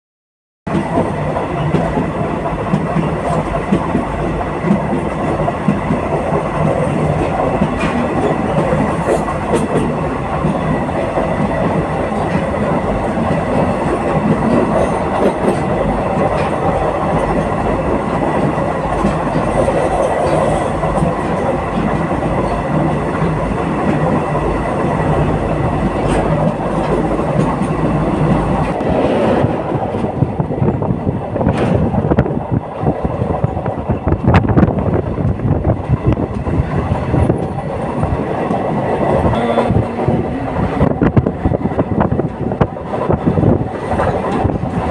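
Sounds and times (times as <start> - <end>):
train wheels rumbling: 0.7 - 44.9.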